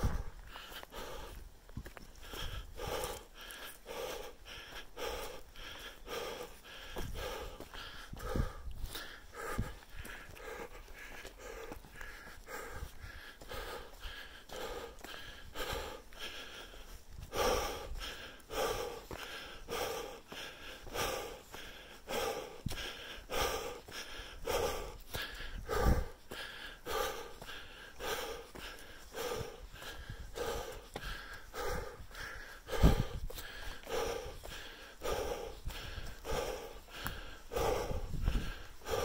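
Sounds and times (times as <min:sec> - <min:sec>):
heavy rhythmic breathing: 0:00.0 - 0:39.0.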